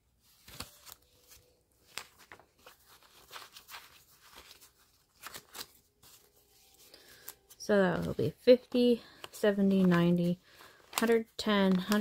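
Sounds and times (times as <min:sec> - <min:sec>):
banknotes rustling: 0:00.1 - 0:12.0.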